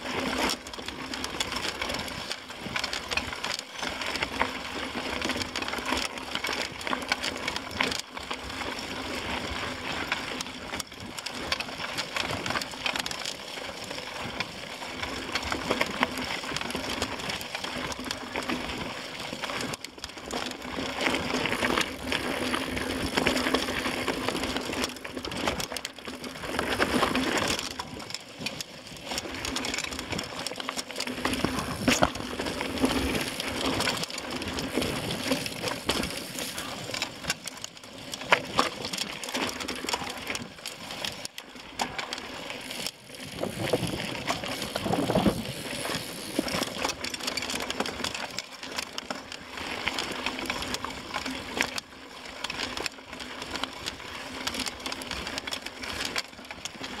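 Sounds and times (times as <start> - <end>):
bike rattling and knocking: 0.0 - 57.0
tyres crunching over gravel: 0.0 - 57.0.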